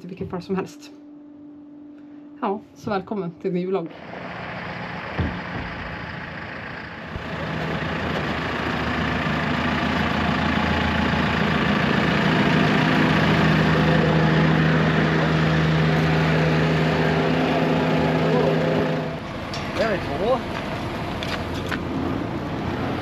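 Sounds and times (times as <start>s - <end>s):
wheel loader diesel engine running: 3.9s - 23.0s.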